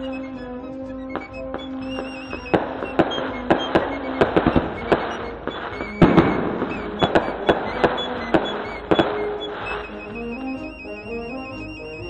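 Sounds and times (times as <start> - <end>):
music: 0.0 - 12.0
fireworks bangs and crackles: 1.1 - 11.8.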